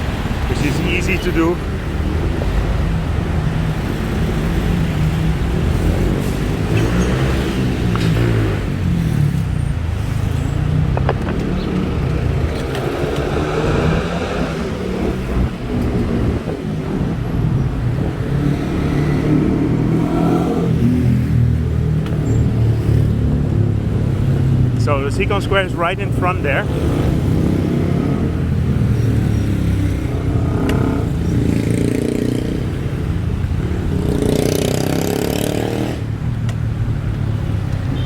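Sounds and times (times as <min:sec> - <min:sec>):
road traffic passing: 0:00.0 - 0:38.0.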